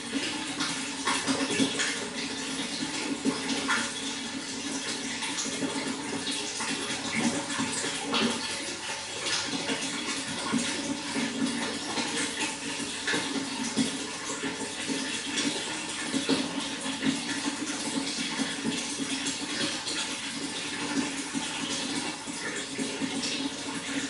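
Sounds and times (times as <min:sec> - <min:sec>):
water flowing: 0:00.0 - 0:24.0
water splashing and gurgling: 0:00.0 - 0:24.0.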